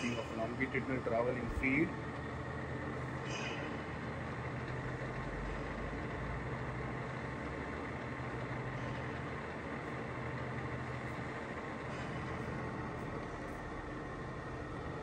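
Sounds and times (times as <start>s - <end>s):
lathe running steadily: 0.0s - 15.0s.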